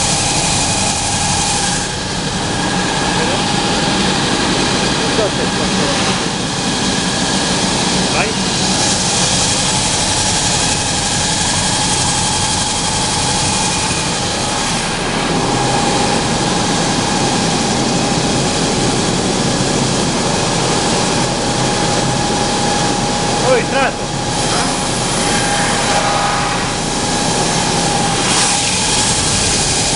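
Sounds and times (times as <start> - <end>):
sanding machine running: 0.0 - 29.9.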